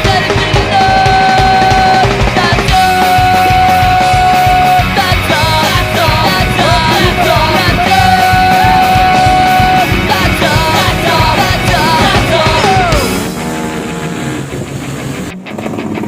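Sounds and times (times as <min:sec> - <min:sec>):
punk rock music with singing: 0:00.0 - 0:14.8.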